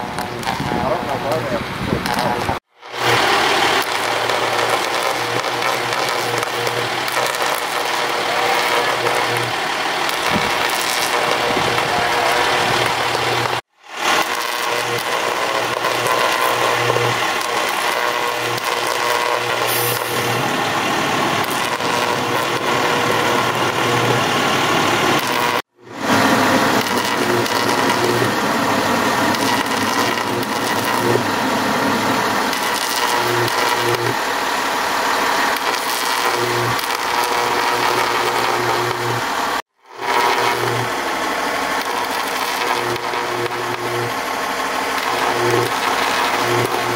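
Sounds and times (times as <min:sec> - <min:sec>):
fire engine idling: 0:00.0 - 0:18.8, 0:19.6 - 0:25.2, 0:25.9 - 0:30.6, 0:31.2 - 0:36.2, 0:40.8 - 0:46.3.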